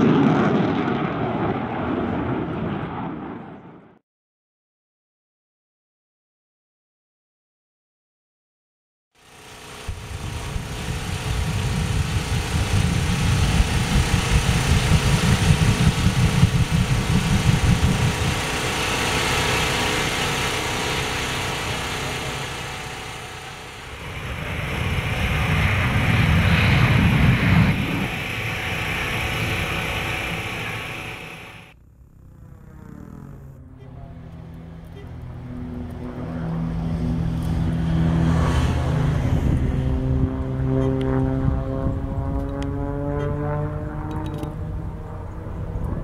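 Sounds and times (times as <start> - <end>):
jet engine with afterburner: 0.0 - 4.0, 9.2 - 46.0.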